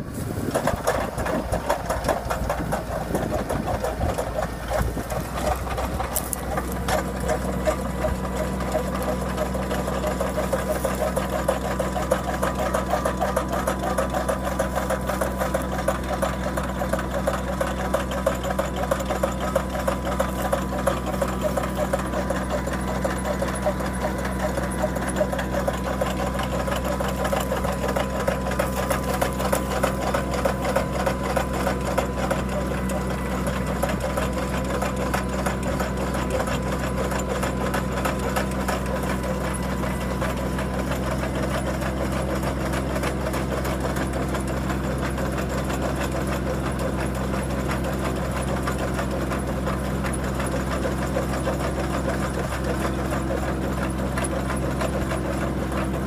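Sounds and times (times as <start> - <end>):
earth auger boring into soil: 0.0 - 56.0
tractor engine running: 0.0 - 56.0.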